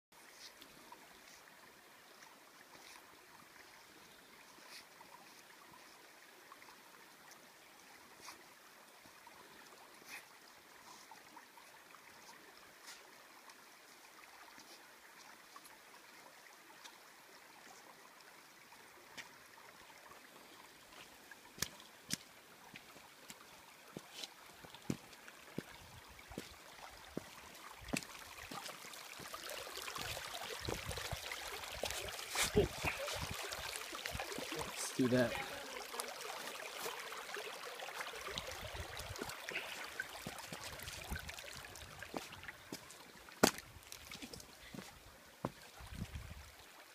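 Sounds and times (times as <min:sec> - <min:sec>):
creek water running over rocks: 0:00.2 - 0:46.9.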